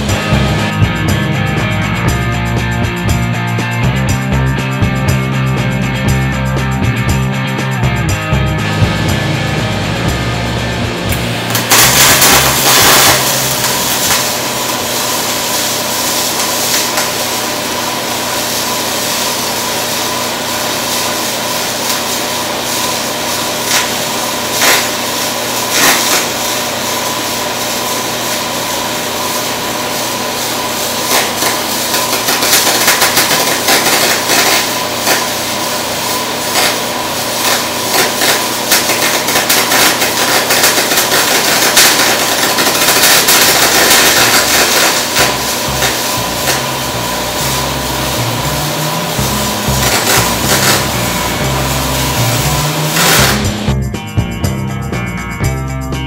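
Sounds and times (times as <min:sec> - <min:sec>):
welding arc hissing and crackling: 0:00.0 - 0:53.9.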